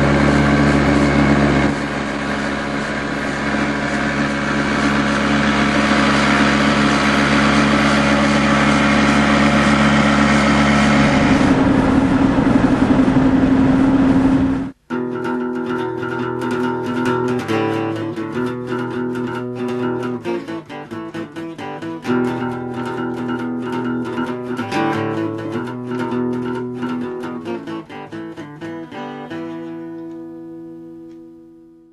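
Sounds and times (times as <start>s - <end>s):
acoustic guitar playing: 0.0s - 31.9s.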